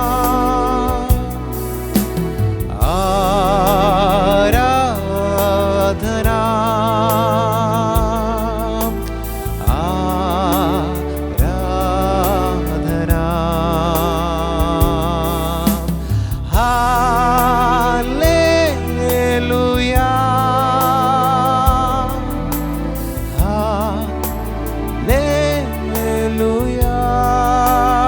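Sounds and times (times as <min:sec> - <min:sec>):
keyboard chords: 0:00.0 - 0:28.0
light ticking beat: 0:00.0 - 0:28.0.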